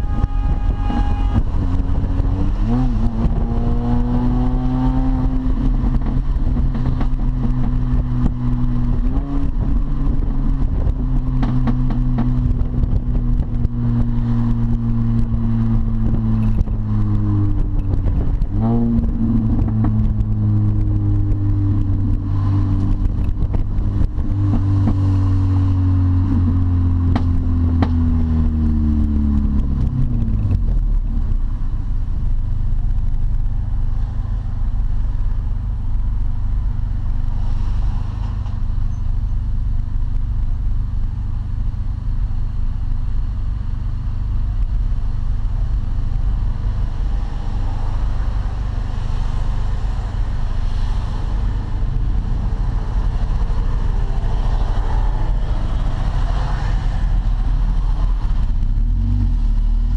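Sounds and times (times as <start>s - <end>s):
car engine while driving: 0.0s - 59.9s.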